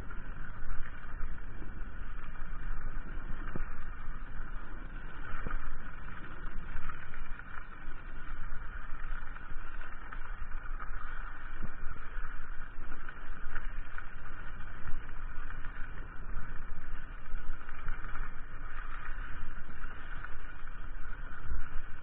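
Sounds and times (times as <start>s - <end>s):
bike tyres rolling on trail: 0.0s - 22.0s.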